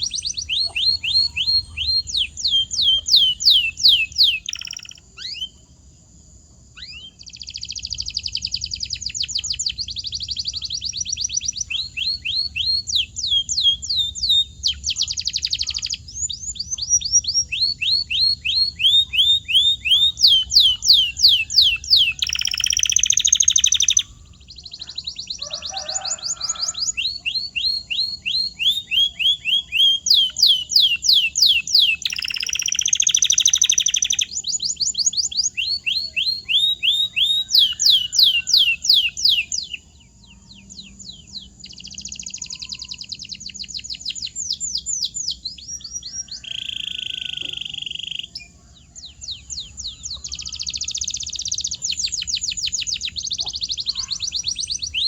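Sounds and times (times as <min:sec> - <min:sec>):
canary singing: 0:00.0 - 0:05.9, 0:06.7 - 0:55.0.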